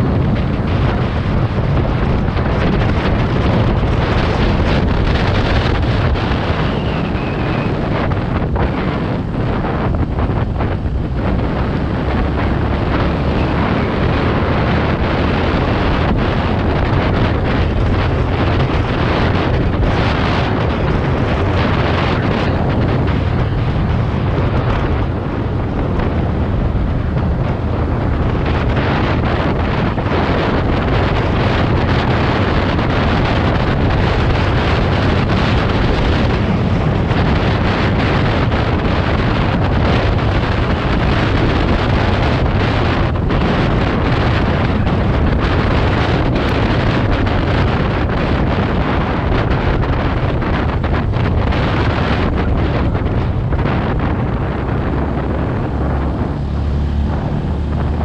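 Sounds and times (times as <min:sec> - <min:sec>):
tyres on road: 0:00.0 - 0:58.0
vehicle running: 0:00.0 - 0:58.0
wind buffeting microphone: 0:00.0 - 0:58.0.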